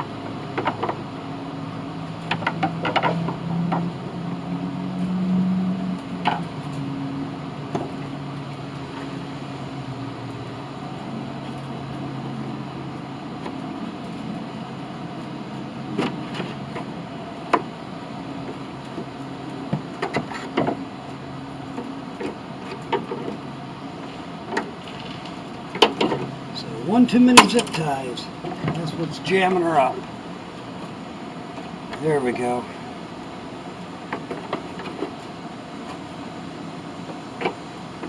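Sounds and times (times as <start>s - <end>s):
low drone: 0.0s - 38.0s
steady background hum: 0.0s - 38.0s.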